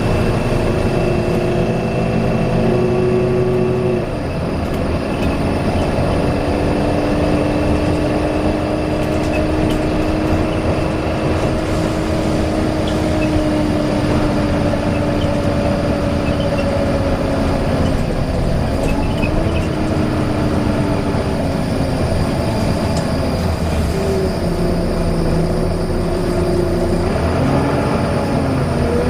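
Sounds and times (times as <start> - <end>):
bus engine whine: 0.0 - 29.0
road noise: 0.0 - 29.0.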